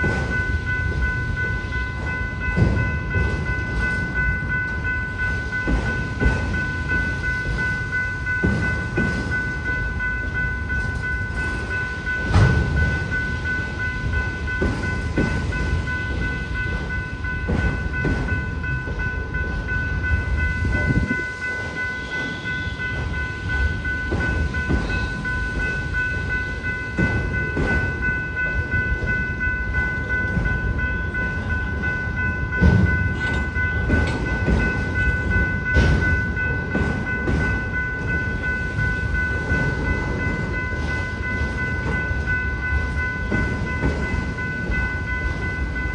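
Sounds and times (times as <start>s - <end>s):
crossing bell ringing: 0.0s - 45.9s
freight train rumbling: 0.0s - 45.9s
train wheel clunks: 0.0s - 45.9s.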